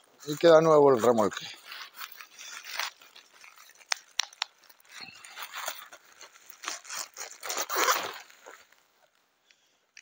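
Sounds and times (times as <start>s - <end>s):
plastic bag crinkling: 0.2s - 8.8s.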